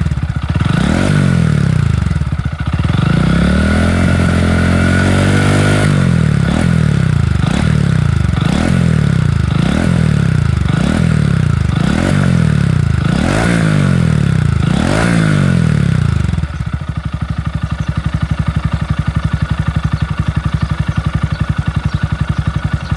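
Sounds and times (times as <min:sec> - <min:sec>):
motorcycle engine revving and idling: 0:00.0 - 0:22.9.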